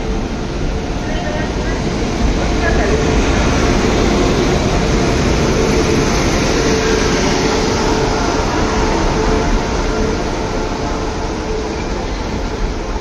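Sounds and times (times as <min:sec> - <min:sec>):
electric locomotive passing: 0:00.0 - 0:13.0.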